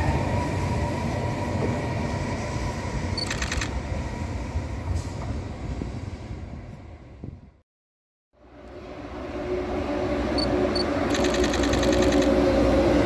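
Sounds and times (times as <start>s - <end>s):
passenger train rumbling past: 0.0s - 7.6s, 8.4s - 13.0s.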